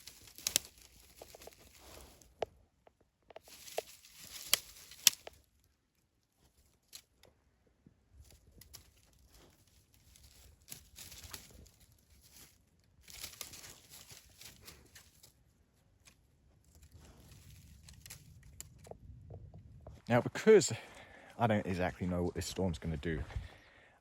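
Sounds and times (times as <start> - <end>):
faint rustling: 0.0 - 7.4, 8.1 - 20.1.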